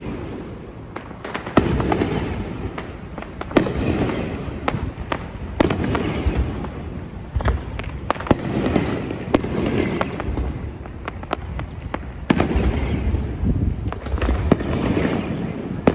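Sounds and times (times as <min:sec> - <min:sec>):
firework pops and crackling: 0:00.9 - 0:15.9.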